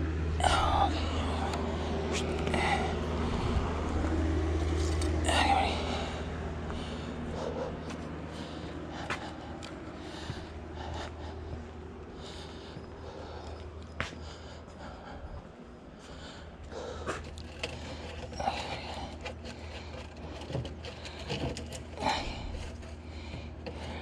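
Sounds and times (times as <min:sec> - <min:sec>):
steady low hum: 0:00.0 - 0:24.0
person breathing heavily: 0:00.3 - 0:04.4, 0:05.0 - 0:24.0.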